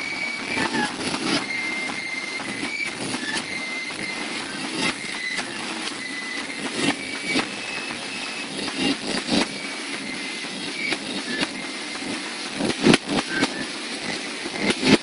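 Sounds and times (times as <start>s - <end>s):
snare drum beats: 0.0s - 15.0s.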